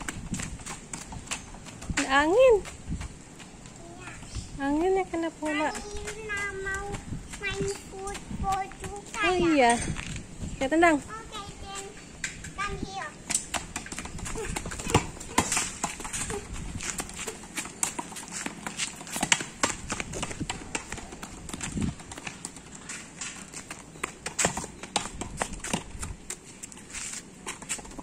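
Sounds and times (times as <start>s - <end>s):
child's footsteps on concrete: 0.0s - 28.0s.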